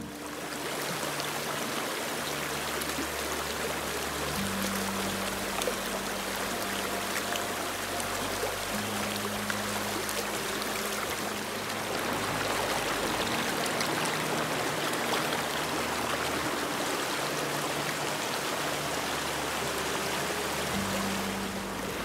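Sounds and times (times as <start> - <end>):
soft background music: 0.0 - 22.0
stream rushing over stones: 0.0 - 22.0.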